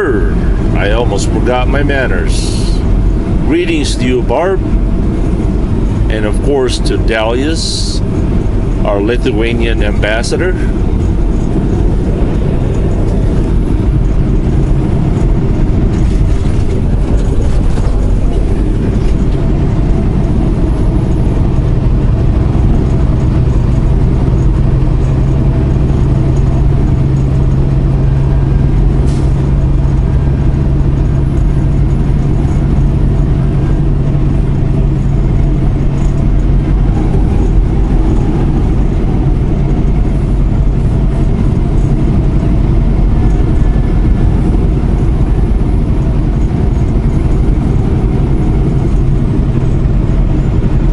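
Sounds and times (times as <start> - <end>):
hum: 0.0 - 50.9
road rumble: 0.0 - 50.9
truck engine drone: 0.0 - 50.9.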